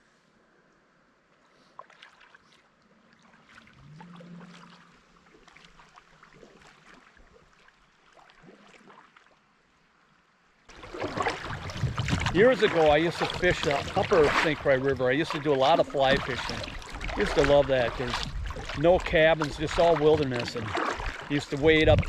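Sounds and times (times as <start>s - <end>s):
paddle splashing in water: 1.6s - 9.5s, 10.7s - 22.0s.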